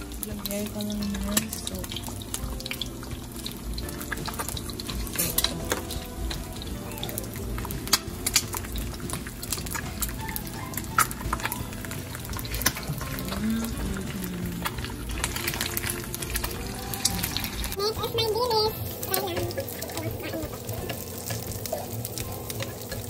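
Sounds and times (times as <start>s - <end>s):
utensils clinking against dishes: 0.0s - 23.0s.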